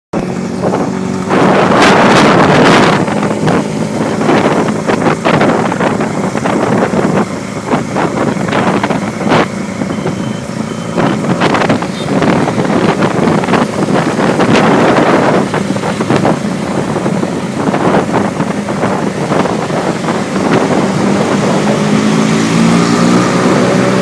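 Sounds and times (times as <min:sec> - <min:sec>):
motorbike engine hum: 0:00.1 - 0:24.0
wind buffeting microphone: 0:00.1 - 0:24.0.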